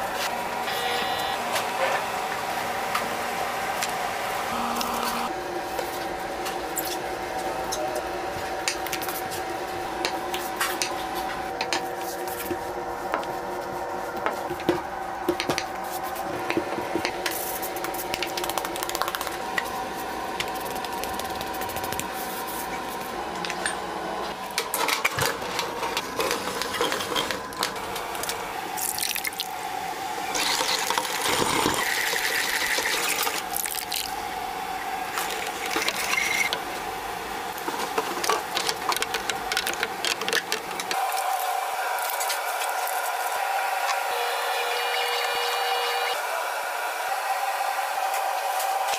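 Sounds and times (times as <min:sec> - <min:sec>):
machine hum: 0:00.0 - 0:48.9.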